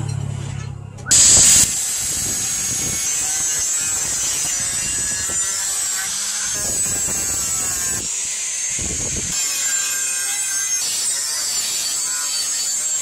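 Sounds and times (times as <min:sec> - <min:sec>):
angle grinder cutting metal: 0:01.1 - 0:13.0.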